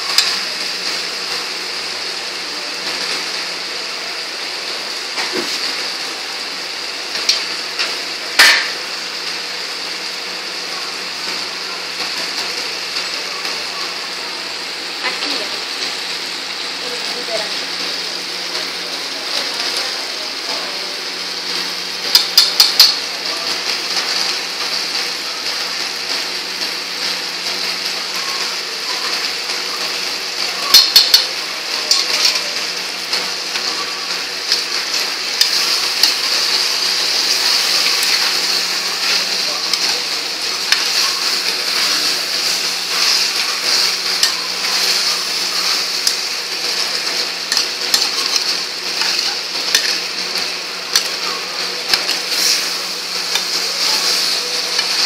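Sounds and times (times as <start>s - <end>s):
vegetables sizzling in a pan: 0.0s - 55.0s.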